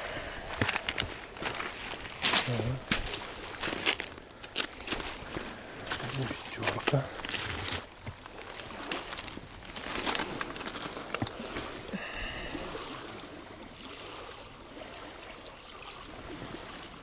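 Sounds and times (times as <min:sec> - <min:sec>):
water lapping and splashing: 0:00.0 - 0:17.0.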